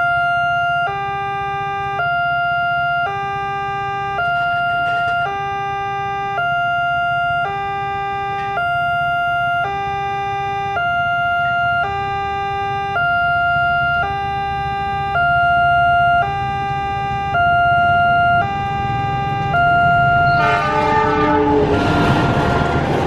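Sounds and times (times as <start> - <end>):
two-tone crossing siren wail: 0.0 - 23.0.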